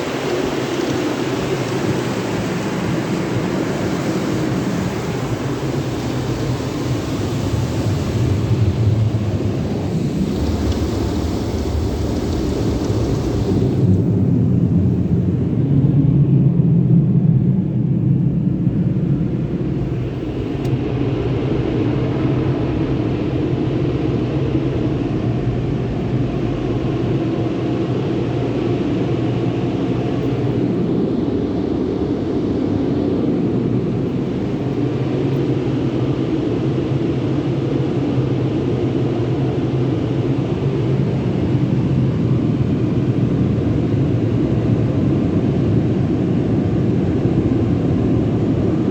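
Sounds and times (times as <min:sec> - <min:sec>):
car wash machinery humming: 0:00.0 - 0:48.9.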